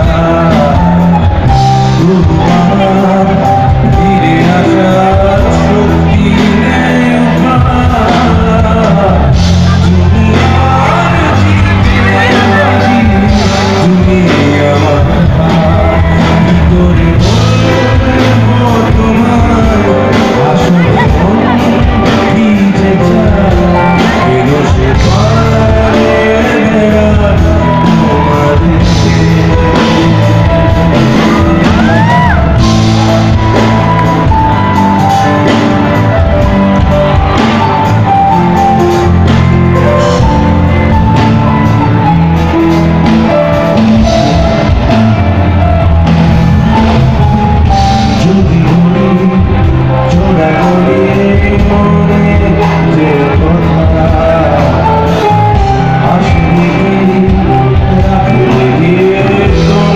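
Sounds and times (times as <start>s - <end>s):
live rock band playing: 0.0s - 59.9s
man singing: 0.0s - 59.9s.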